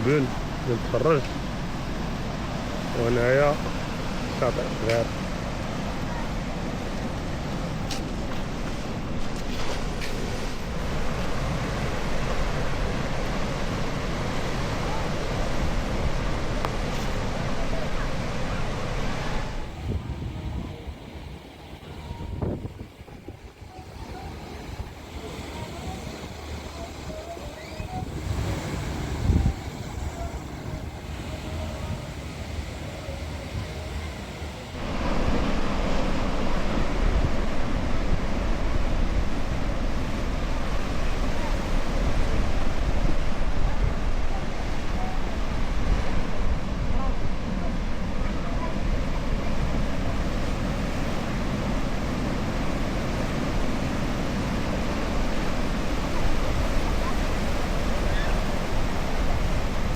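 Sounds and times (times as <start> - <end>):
distant surf: 0.0 - 59.9
wind rumble on microphone: 4.9 - 59.9.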